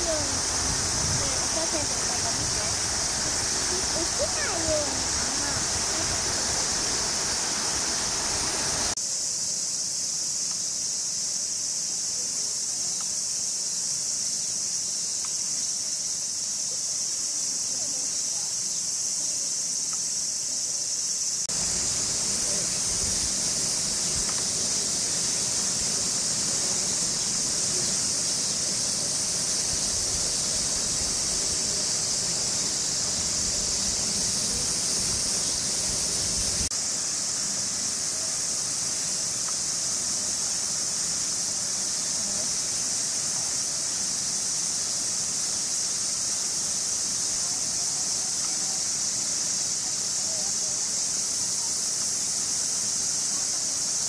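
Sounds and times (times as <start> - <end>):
cicadas droning: 0.0 - 54.0.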